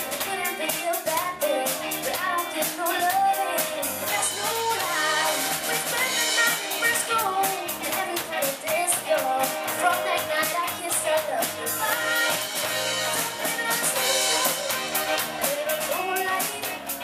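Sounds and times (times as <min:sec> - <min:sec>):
girl singing: 0:00.0 - 0:17.0
live band playing: 0:00.0 - 0:17.0.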